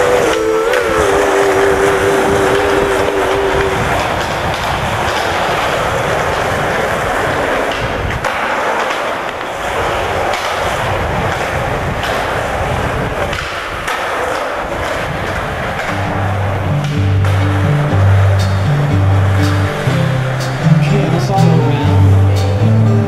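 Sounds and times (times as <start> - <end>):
skateboard wheels rolling on concrete: 0.0 - 23.0.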